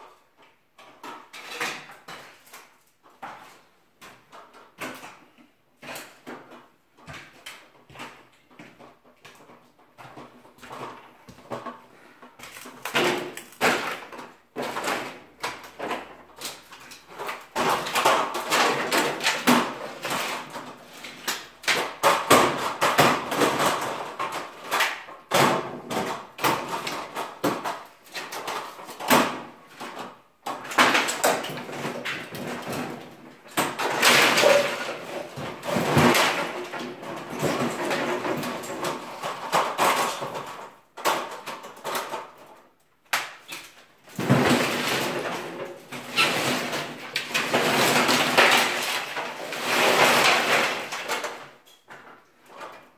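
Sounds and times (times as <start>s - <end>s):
wooden debris knocking and clattering: 0.4s - 52.9s.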